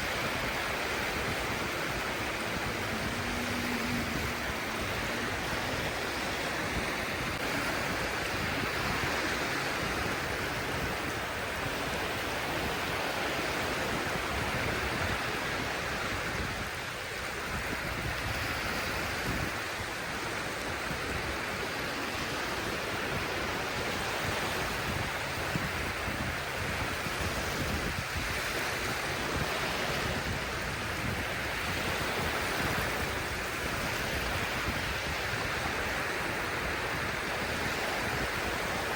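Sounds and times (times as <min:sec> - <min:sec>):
surf washing onto shore: 0:00.0 - 0:38.9.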